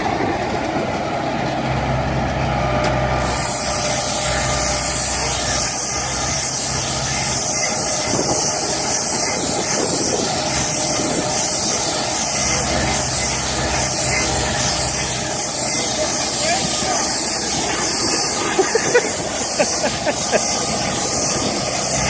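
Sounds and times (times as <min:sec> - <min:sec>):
hay baler running: 0:00.0 - 0:22.0.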